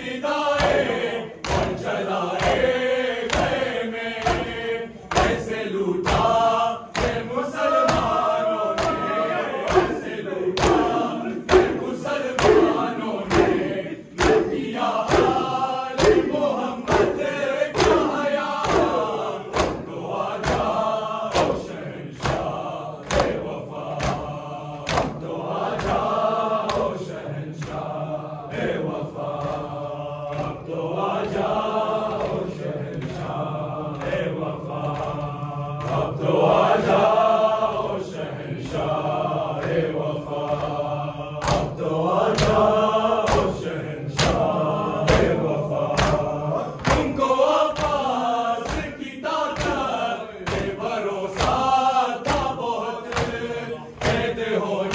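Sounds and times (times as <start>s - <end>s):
men chanting in unison: 0.0s - 54.9s
hands slapping chests: 0.5s - 54.9s.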